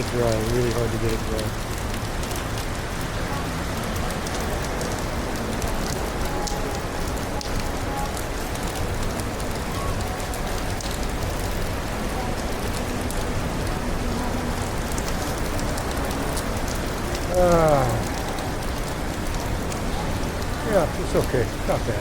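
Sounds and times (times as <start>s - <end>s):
rain pattering on surfaces: 0.0s - 22.0s.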